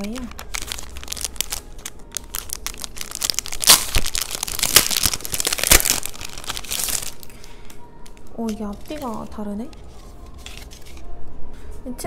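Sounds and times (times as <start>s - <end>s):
plastic sleeve crinkling: 0.0s - 11.2s.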